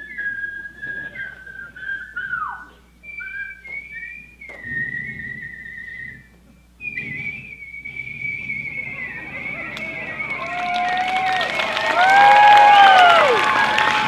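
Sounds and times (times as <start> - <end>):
person whistling a slow tune: 0.0 - 11.4.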